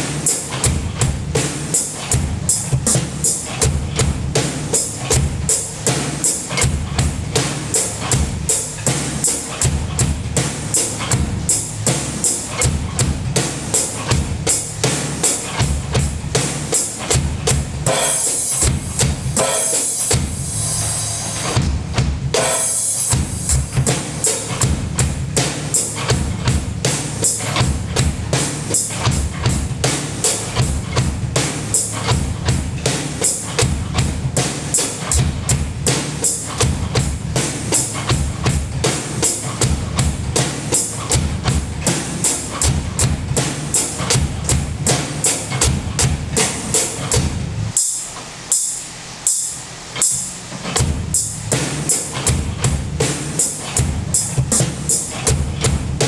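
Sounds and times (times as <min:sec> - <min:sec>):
drum kit beat: 0:00.0 - 0:56.0.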